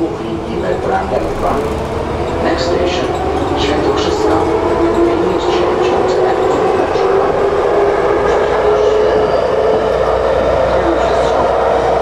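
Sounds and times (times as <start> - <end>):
wheels rumbling on rail: 0.0 - 12.0
traction motors whining: 0.7 - 12.0.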